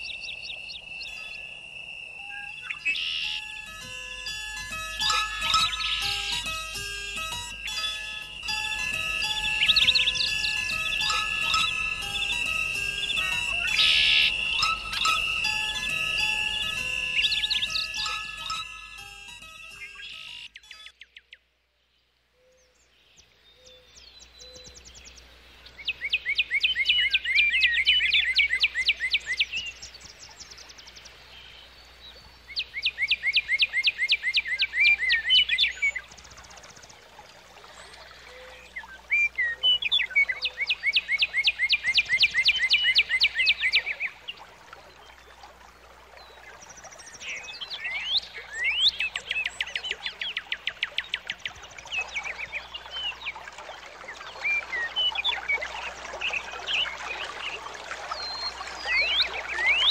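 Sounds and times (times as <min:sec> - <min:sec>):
songbird singing repeated notes: 0:00.0 - 0:21.5, 0:22.4 - 0:59.9.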